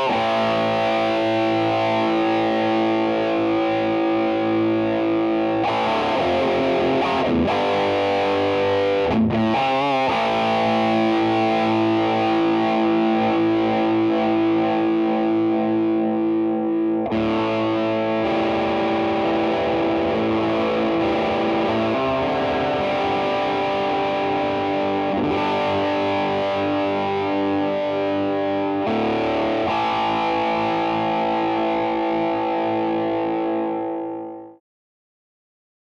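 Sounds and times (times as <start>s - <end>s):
distorted electric guitar chords: 0.0s - 34.6s.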